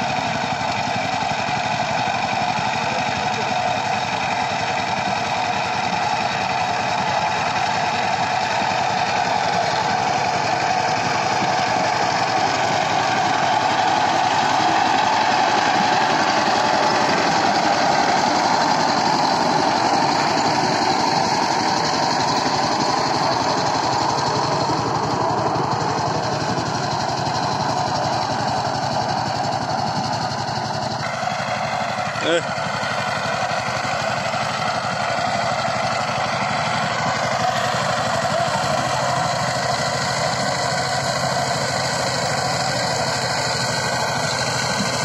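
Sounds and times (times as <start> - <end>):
diesel tractor engine running: 0.0 - 45.0.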